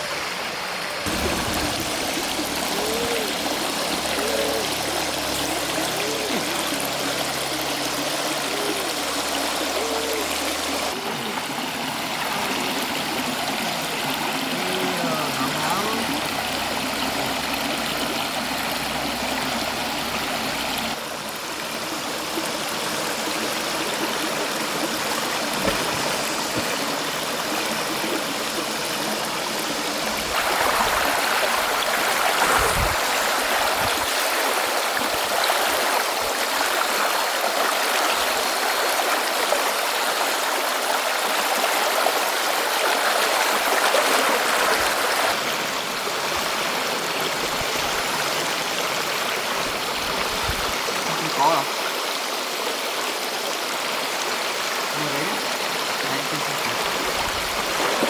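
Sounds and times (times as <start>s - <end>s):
stream water flowing over rocks: 0.0s - 58.0s.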